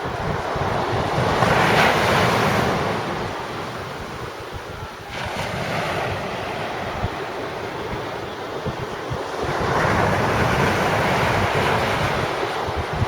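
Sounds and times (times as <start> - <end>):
sea waves breaking: 0.0 - 13.0
wind buffeting microphone: 0.0 - 13.0.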